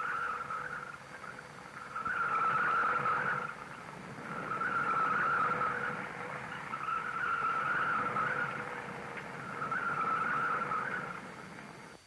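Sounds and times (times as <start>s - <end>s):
car tyres squealing: 0.0s - 12.0s
faint steady tone: 0.0s - 12.0s.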